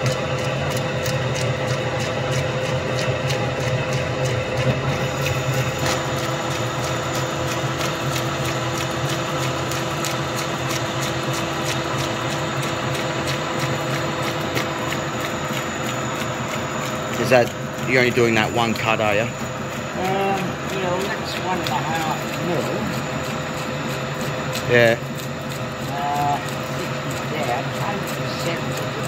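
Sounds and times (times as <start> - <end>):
lathe humming: 0.0 - 29.0
light regular ticking: 0.0 - 29.0.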